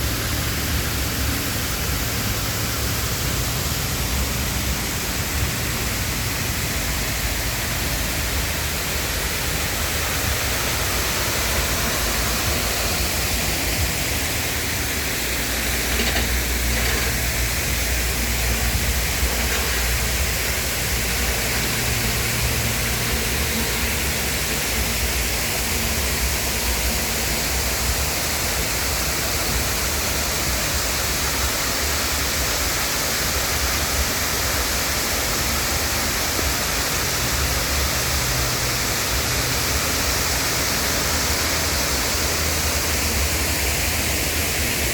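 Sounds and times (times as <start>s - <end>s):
small waterfall splashing: 0.0s - 44.9s.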